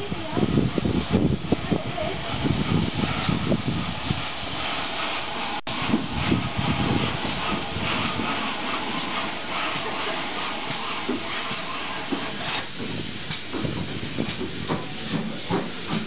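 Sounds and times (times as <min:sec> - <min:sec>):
steam hissing: 0:00.0 - 0:16.0
steam locomotive rumble: 0:00.0 - 0:16.0.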